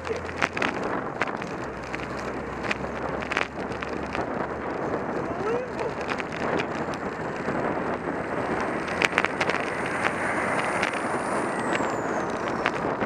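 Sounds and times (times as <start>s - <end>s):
truck engine and tyres rumbling: 0.0s - 13.0s
wind noise on microphone: 0.0s - 13.0s.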